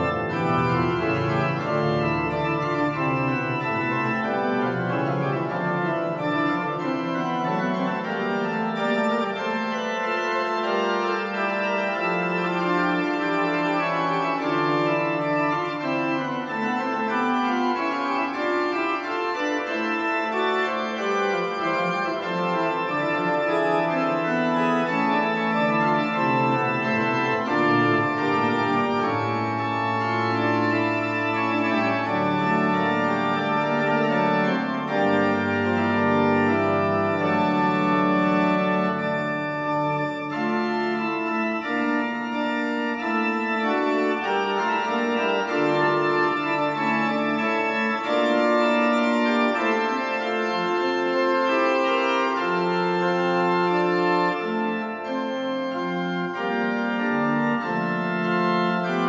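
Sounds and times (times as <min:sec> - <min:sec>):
pipe organ playing: 0:00.0 - 0:59.0.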